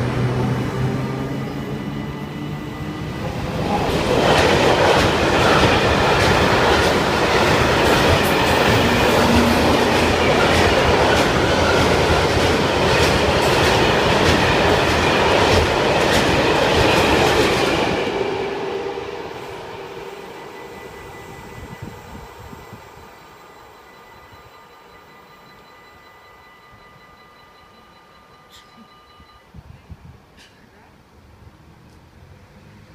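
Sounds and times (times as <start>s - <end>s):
freight train rumbling past: 0.0s - 29.4s.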